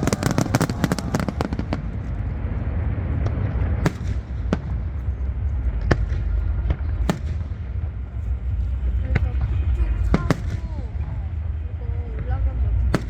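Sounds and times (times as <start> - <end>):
fireworks exploding: 0.0 - 13.0
low rumble: 0.0 - 13.0.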